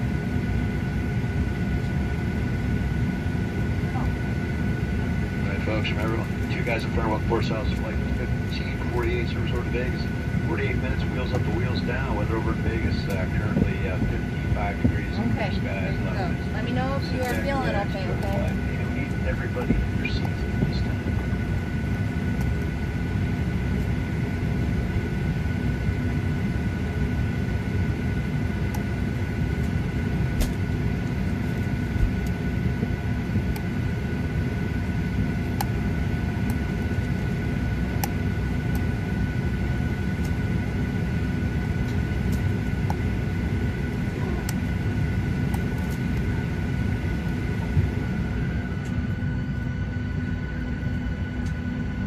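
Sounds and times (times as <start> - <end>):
jet engines idling rumble: 0.0 - 52.0
thin high engine whine: 0.0 - 52.0.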